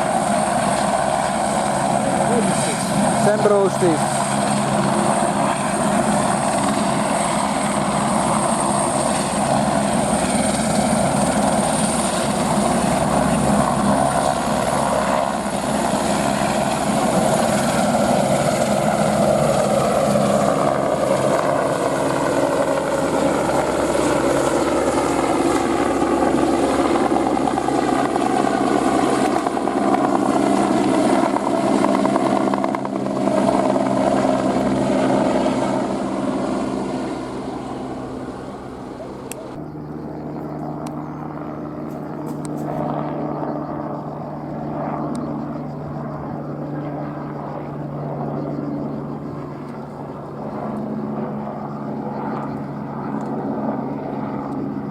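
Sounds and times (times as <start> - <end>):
helicopter turbine and rotor: 0.0 - 54.9.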